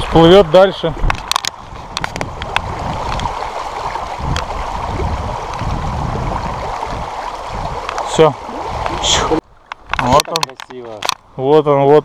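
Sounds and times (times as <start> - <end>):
water rushing over pebbles: 0.0 - 11.3.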